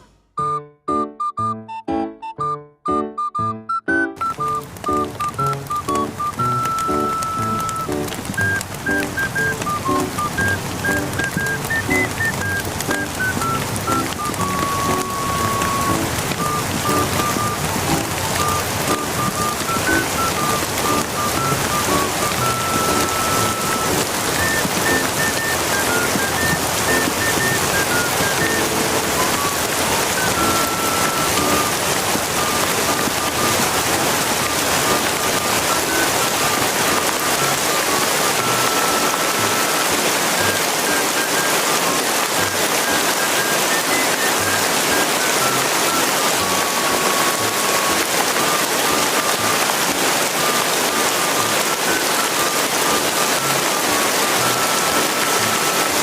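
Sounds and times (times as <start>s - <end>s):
quiet melody of single notes: 0.0s - 49.7s
heavy rain: 3.9s - 56.0s.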